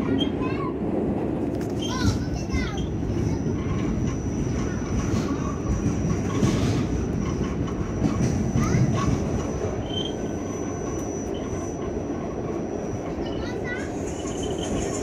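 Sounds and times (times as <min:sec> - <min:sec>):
subway wheels rumbling on rail: 0:00.0 - 0:15.0
brief wheel squeals: 0:01.8 - 0:15.0.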